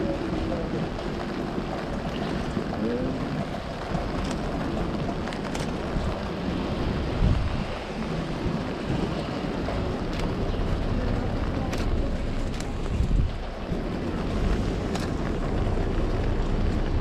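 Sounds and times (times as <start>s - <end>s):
rain on an umbrella: 0.0s - 17.0s
wind rumble on microphone: 0.0s - 17.0s.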